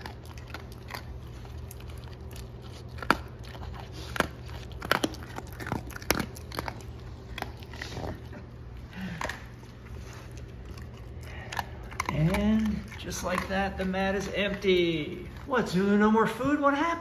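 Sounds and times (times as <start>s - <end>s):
dog crunching dry kibble: 0.0s - 17.0s.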